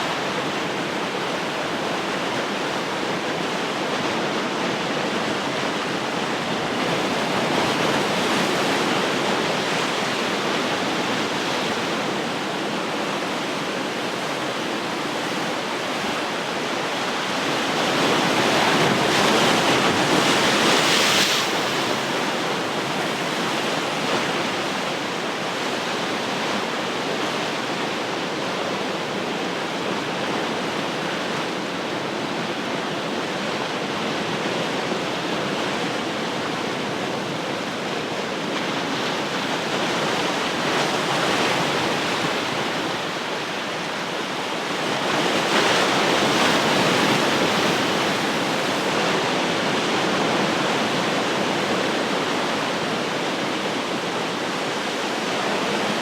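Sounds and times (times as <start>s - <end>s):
ocean surf washing ashore: 0.0s - 56.0s.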